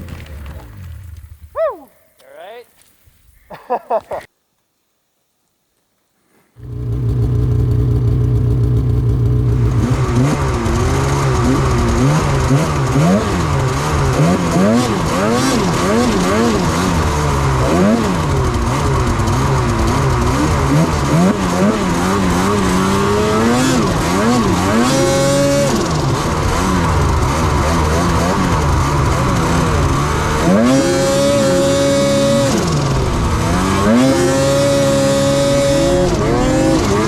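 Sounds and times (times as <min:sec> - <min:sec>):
snowmobile engine revving: 0:06.6 - 0:37.0.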